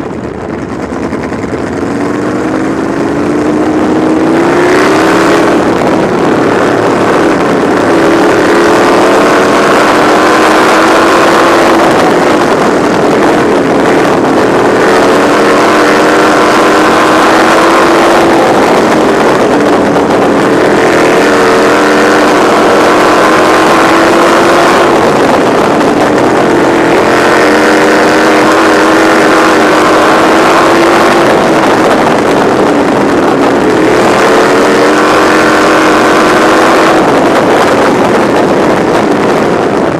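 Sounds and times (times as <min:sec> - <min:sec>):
racing car engine revving: 0:00.0 - 0:39.9
wind on microphone: 0:00.0 - 0:39.9.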